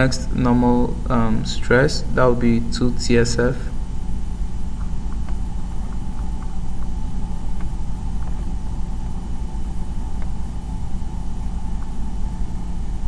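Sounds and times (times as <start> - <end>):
low rumbling room hum: 0.0 - 13.0.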